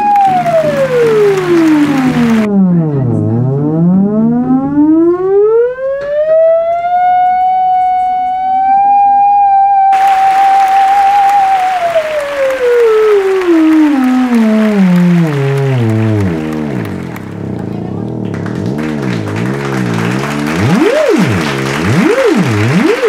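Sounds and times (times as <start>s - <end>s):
theremin gliding tone: 0.0s - 2.8s, 3.6s - 17.5s, 20.0s - 23.0s.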